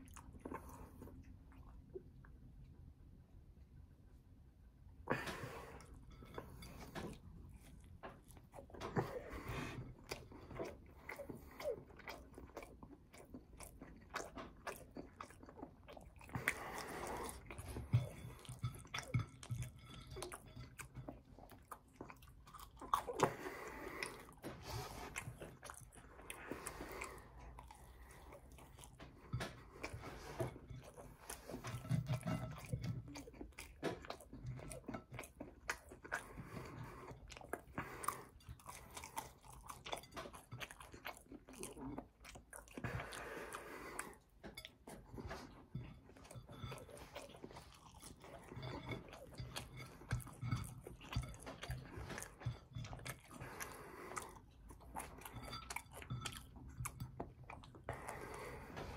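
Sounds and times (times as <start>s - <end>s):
chewing and crunching food: 0.0s - 58.9s.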